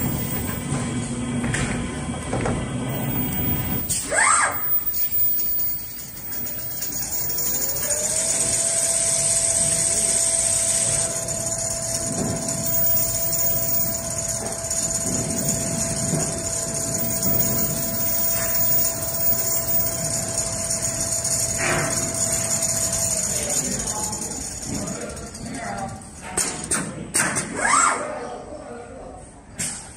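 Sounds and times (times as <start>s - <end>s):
sewing machine whine and rumble: 0.0s - 27.9s.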